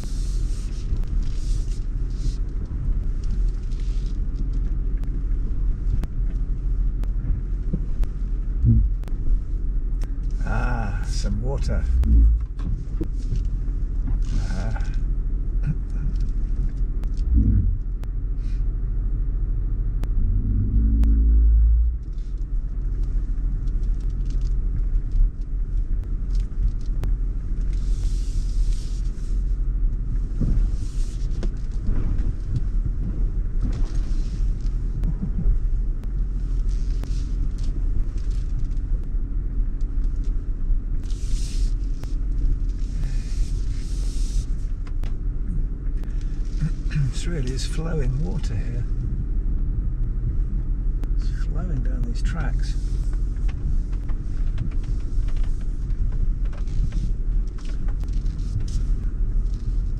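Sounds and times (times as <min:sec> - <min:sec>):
engine low rumble: 0:00.0 - 0:59.9.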